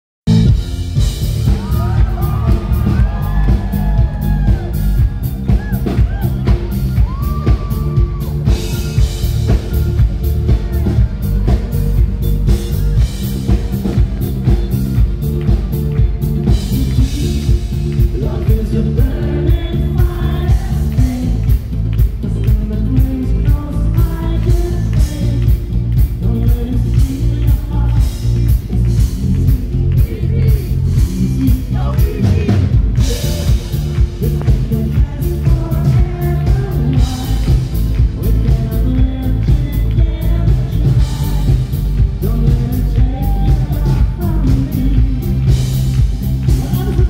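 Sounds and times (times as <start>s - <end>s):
live pop band playing: 0.2s - 47.0s.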